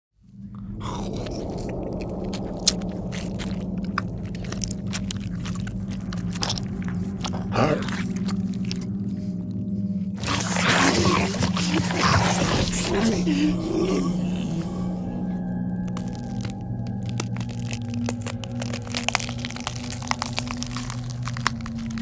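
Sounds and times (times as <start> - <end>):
steady low hum: 0.2 - 22.0
crunching and crackling snaps: 0.3 - 22.0.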